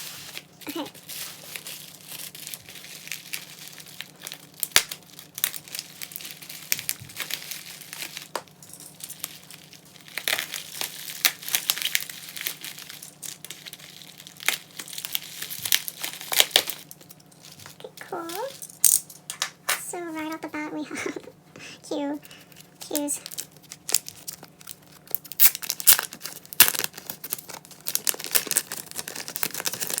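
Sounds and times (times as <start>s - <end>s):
packaging crinkling and rustling: 0.0s - 18.8s, 22.2s - 30.0s.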